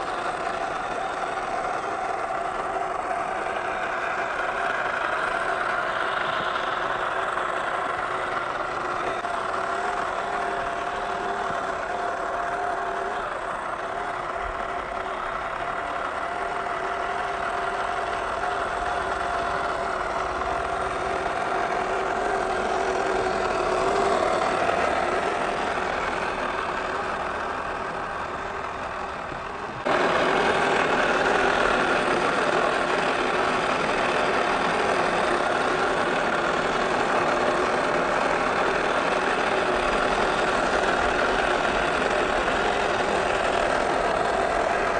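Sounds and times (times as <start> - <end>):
toy truck electric motor whine: 0.0 - 44.9.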